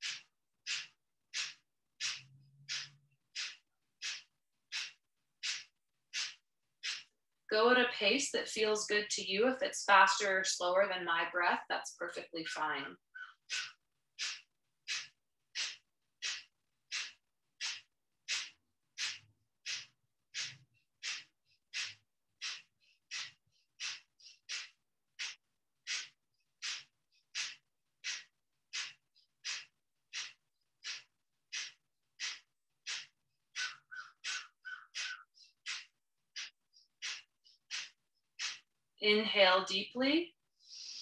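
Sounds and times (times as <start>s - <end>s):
woman breathing rapidly through nose: 0.0s - 7.1s, 13.2s - 38.7s, 40.5s - 41.0s.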